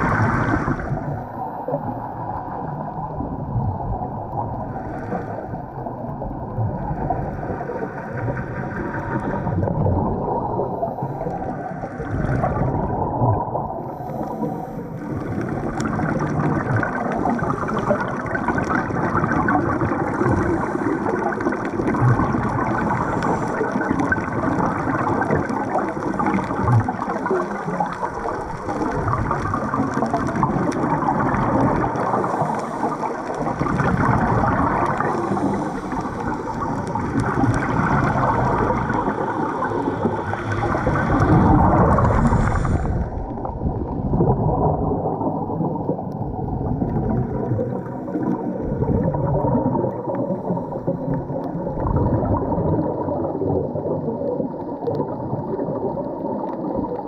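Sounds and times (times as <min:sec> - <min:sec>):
water gurgling and sloshing: 0:00.0 - 0:57.0.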